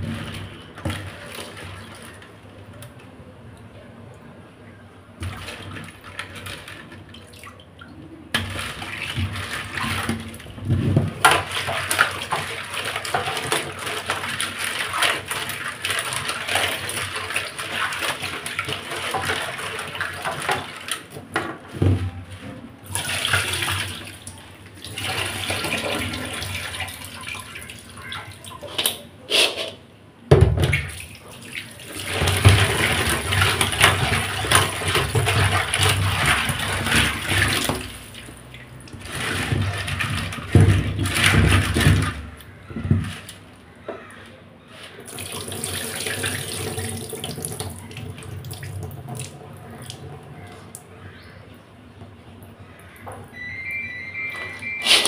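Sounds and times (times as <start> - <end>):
water sloshing and splashing: 0.0 - 3.0, 5.1 - 29.2, 30.4 - 55.0.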